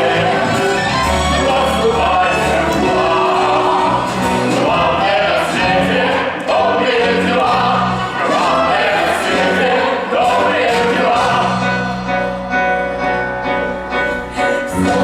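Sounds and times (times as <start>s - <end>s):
symphony orchestra: 0.0s - 15.0s.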